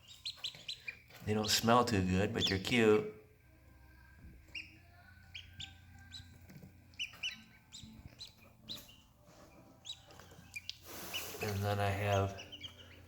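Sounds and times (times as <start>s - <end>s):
ducklings peeping: 0.0s - 3.2s, 4.2s - 13.0s.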